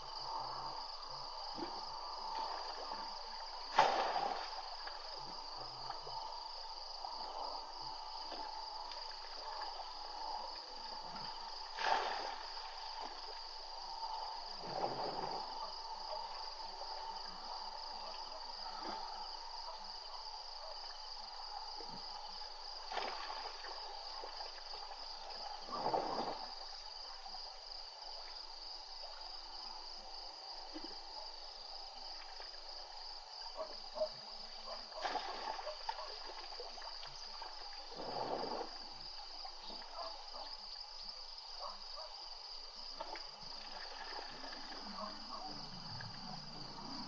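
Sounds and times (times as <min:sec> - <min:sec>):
insects trilling and humming: 0:00.0 - 0:47.0.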